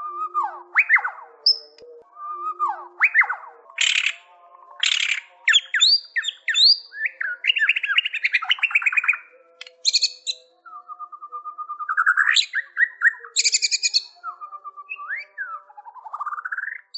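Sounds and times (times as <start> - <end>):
bird singing whistles and trills: 0.0 - 16.9.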